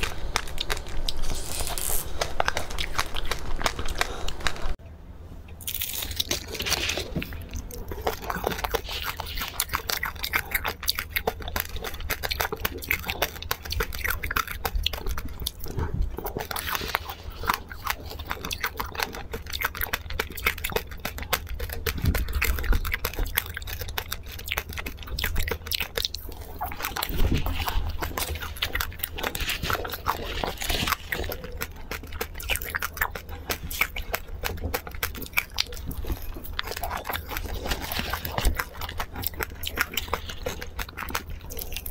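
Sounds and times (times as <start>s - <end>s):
biting and chewing crunchy treat: 0.0s - 4.8s, 5.5s - 41.9s
foil wrapper crinkling: 0.0s - 4.8s, 5.6s - 10.2s, 16.3s - 41.9s.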